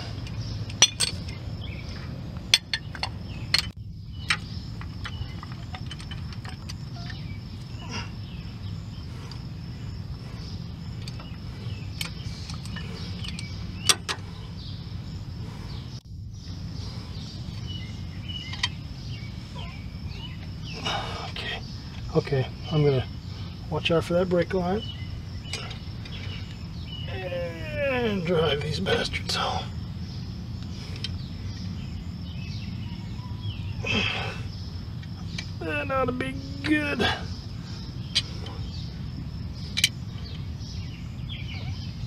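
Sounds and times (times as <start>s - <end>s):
outdoor background hum: 0.0s - 42.0s.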